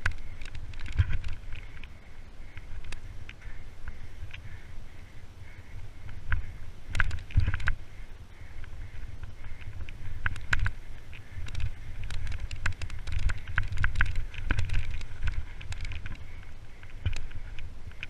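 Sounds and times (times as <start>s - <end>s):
bike rattling and knocking: 0.0s - 4.6s, 6.0s - 7.8s, 8.8s - 18.0s
wind buffeting microphone: 0.0s - 18.0s.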